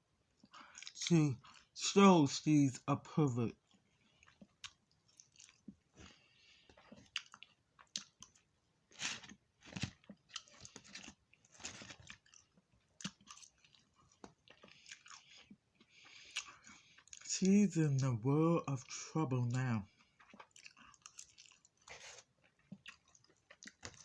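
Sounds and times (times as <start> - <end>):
person chewing and crunching food: 0.3 - 1.8, 3.5 - 24.0.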